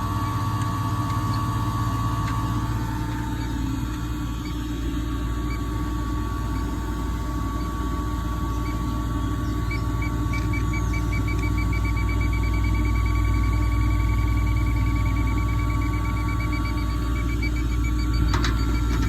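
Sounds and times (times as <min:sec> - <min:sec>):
leak detector beeping: 0:00.0 - 0:19.0
machine hum: 0:00.0 - 0:19.0.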